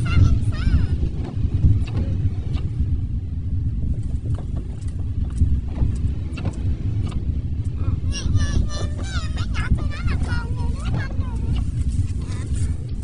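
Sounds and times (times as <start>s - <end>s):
tyres and engine rumble: 0.0s - 13.0s.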